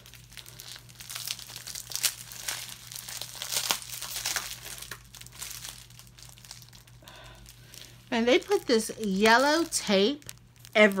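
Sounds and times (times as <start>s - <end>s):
parcel packaging crinkling: 0.0s - 11.0s.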